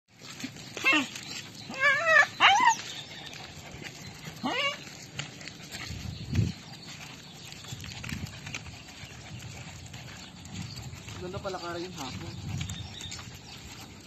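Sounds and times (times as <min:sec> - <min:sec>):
small dogs whining and yipping: 0:00.2 - 0:11.2, 0:12.4 - 0:14.0.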